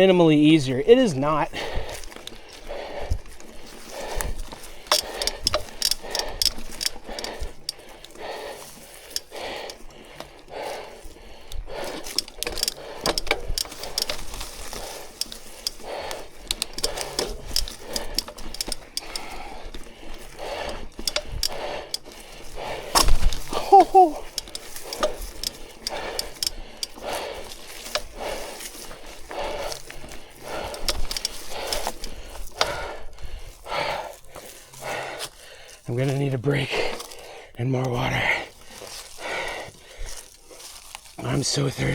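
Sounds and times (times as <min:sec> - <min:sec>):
bicycle freewheel ticking: 0:00.0 - 0:35.3
footsteps on trail: 0:00.0 - 0:41.9
clicks and knocks from bike: 0:01.3 - 0:35.6.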